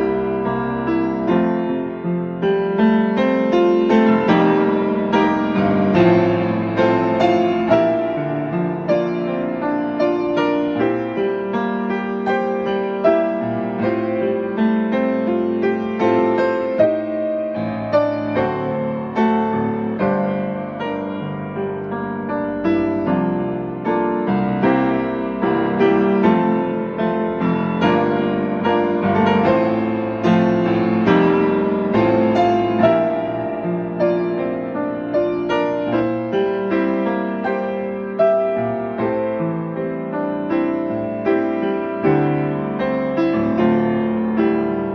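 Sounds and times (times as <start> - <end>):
solo piano playing hymn: 0.0 - 44.9.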